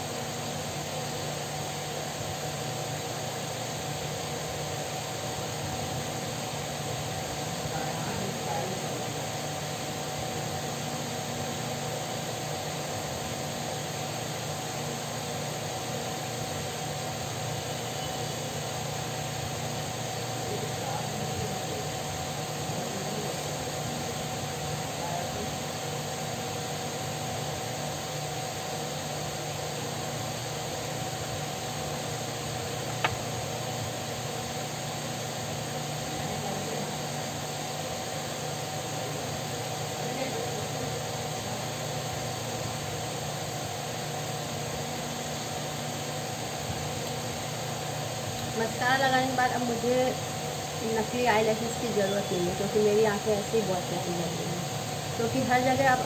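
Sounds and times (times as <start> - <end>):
electric fan whirring: 0.0 - 56.0.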